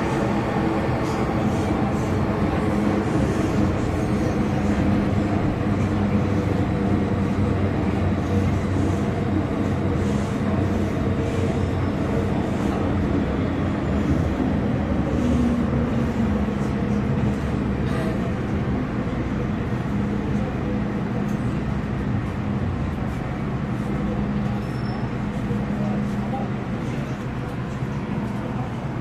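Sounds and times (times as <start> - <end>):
train equipment hum: 0.0 - 29.0
train wheels rumbling on rail: 0.0 - 29.0.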